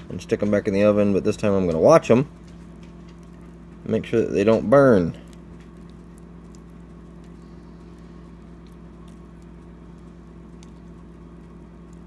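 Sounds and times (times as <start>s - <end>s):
low mechanical hum: 0.0s - 12.0s
water ticking and crackling: 1.6s - 12.0s.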